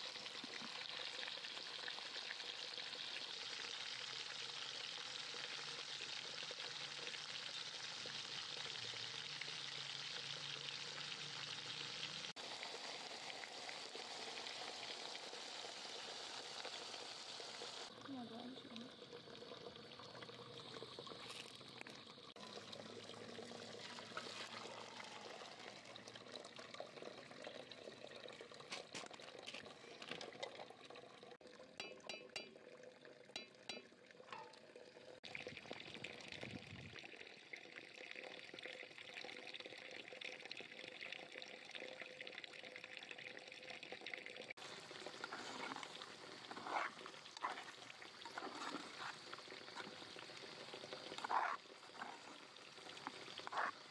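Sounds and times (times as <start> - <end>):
water pouring and trickling: 0.0 - 53.9.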